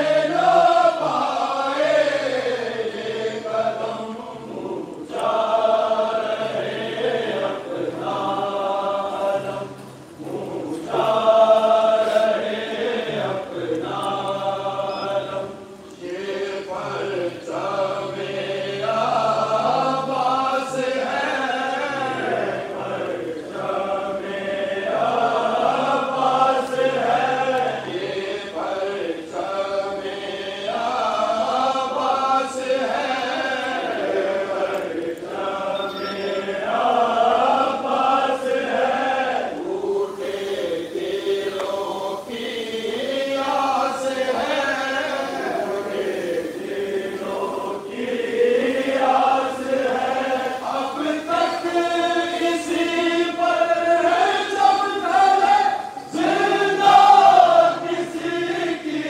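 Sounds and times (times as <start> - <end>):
men chanting in unison: 0.0 - 59.0.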